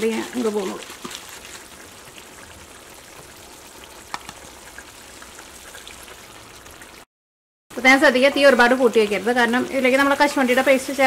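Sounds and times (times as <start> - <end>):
curry sizzling in pan: 0.0 - 7.1, 7.8 - 11.0.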